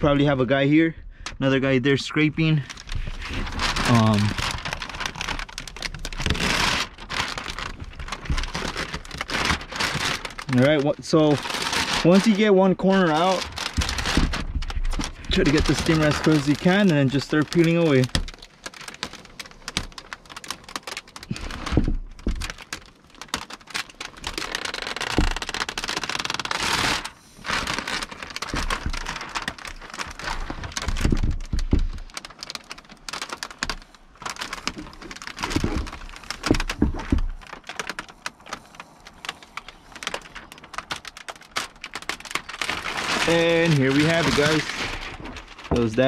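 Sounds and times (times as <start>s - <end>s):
film crackling as peeled: 1.1s - 46.0s.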